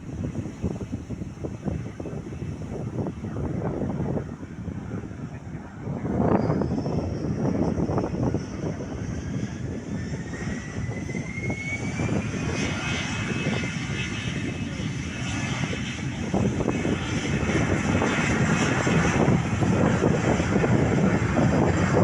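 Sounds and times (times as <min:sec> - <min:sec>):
airliner engines whining: 0:00.0 - 0:22.0.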